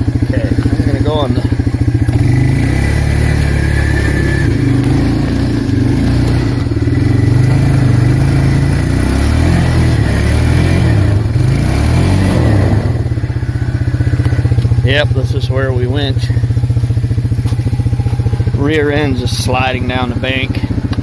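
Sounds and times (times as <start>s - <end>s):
atv engine running under load: 0.0s - 21.0s.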